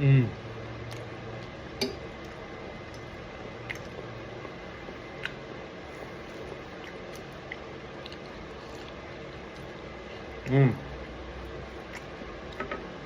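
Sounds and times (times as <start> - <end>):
low room hum: 0.0 - 13.0
wet chewing: 0.6 - 13.0.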